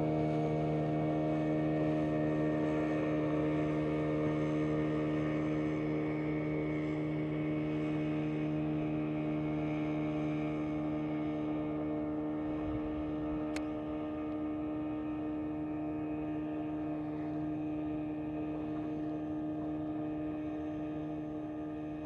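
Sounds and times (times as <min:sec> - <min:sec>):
engine humming steadily: 0:00.0 - 0:22.0.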